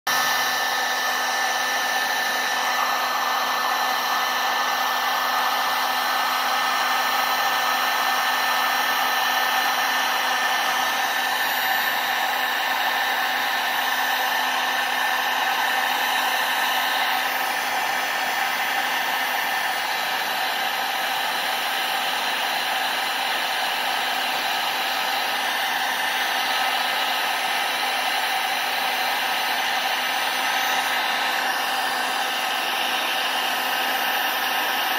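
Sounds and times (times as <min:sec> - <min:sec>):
heat gun blowing air: 0:00.1 - 0:34.9.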